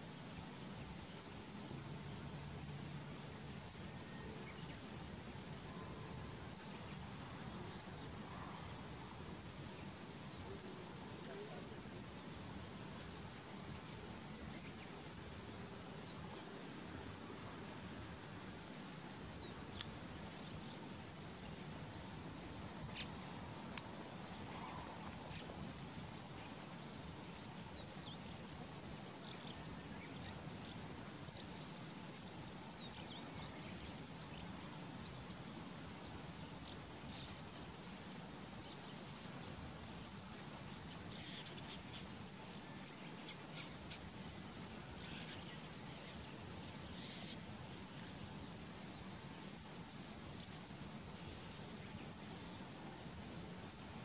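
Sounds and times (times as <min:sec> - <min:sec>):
faint low background noise: 0:00.0 - 0:54.0
small birds chirping: 0:03.1 - 0:54.0.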